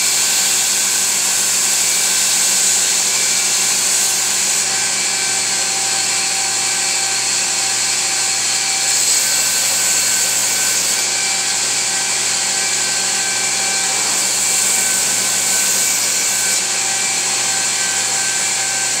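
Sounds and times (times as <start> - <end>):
belt grinder running: 0.0 - 19.0.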